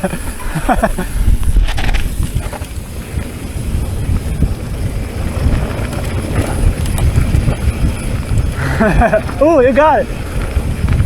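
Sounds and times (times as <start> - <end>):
bike rattle: 0.0 - 11.0
wind buffeting microphone: 0.0 - 11.0.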